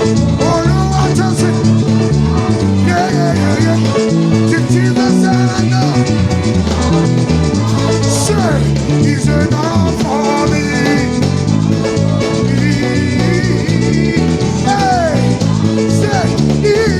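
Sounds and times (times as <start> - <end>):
electric bass line: 0.0 - 16.9
live gospel band: 0.0 - 16.9.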